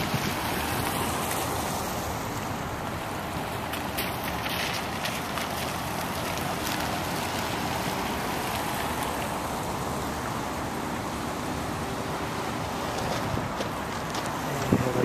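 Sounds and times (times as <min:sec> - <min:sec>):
tyres hissing on wet pavement: 0:00.0 - 0:15.0.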